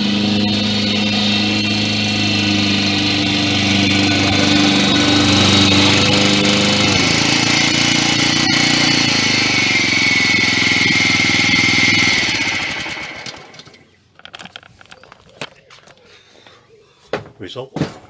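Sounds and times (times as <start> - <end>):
lawnmower engine running: 0.0 - 15.9.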